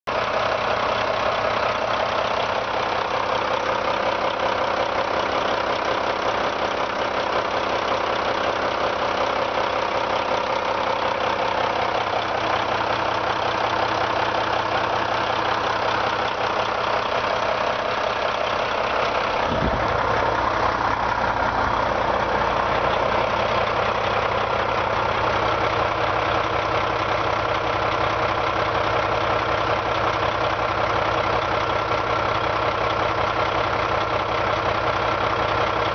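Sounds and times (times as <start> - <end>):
diesel truck engine idling: 0.1 - 35.9.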